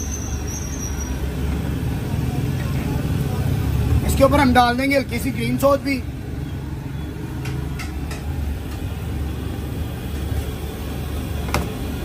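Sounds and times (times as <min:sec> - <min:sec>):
low rumble of street noise: 0:00.0 - 0:12.0.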